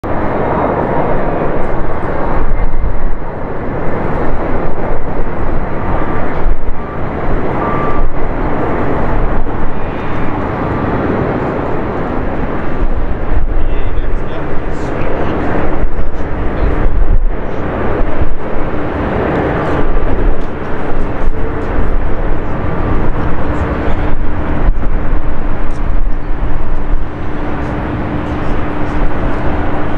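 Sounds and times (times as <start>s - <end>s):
jet engines rumbling: 0.0s - 29.9s
steady hum: 0.0s - 29.9s.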